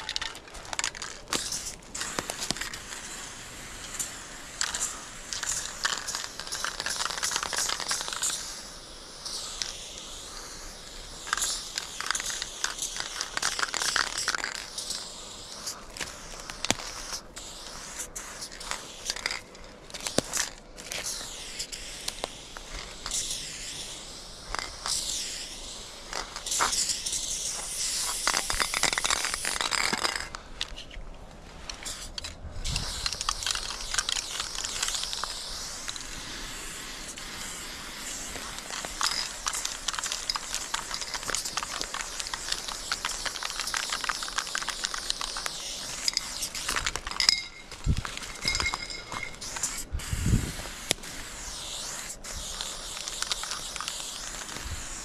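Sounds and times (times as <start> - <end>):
spray paint can hissing: 0.0 - 55.0.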